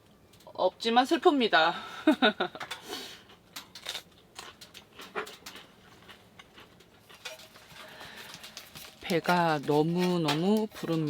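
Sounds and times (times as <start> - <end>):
wood fire crackling in stove: 0.0 - 11.0.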